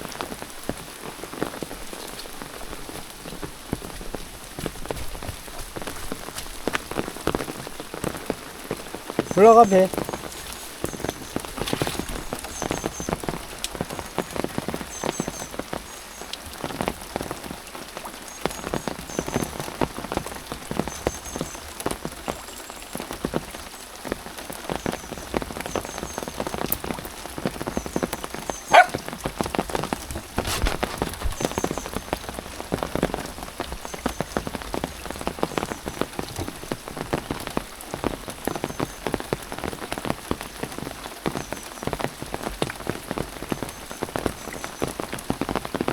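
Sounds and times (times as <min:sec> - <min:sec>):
rain patter: 0:00.0 - 0:45.9.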